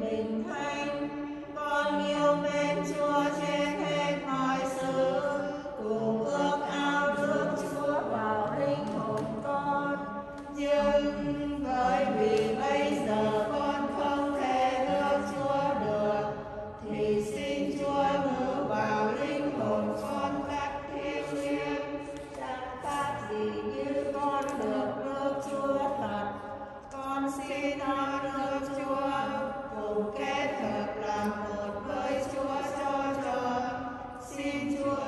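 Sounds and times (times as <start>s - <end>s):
church choir singing a hymn: 0.0s - 35.0s.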